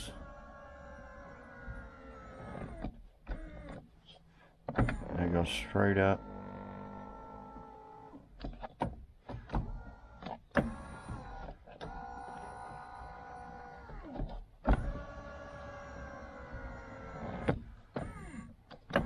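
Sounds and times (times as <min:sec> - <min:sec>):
electric seat motor whirring: 0:00.0 - 0:03.8, 0:04.8 - 0:08.3, 0:09.5 - 0:19.0.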